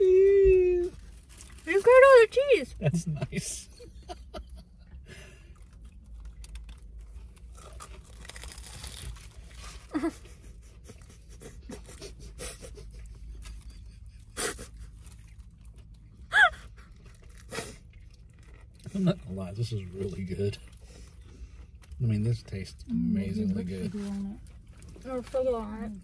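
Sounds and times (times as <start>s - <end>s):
low steady hum: 0.0s - 26.0s
chewing and crunching: 0.9s - 1.9s, 4.7s - 26.0s.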